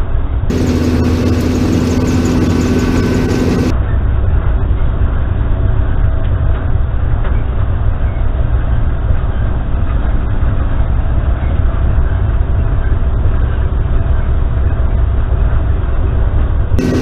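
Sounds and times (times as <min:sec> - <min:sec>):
harvester engine droning: 0:00.0 - 0:17.0.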